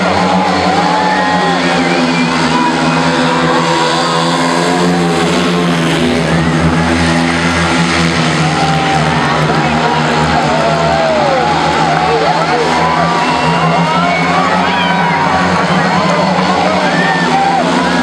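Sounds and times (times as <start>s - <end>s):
motorcycle engines racing: 0.0s - 18.0s.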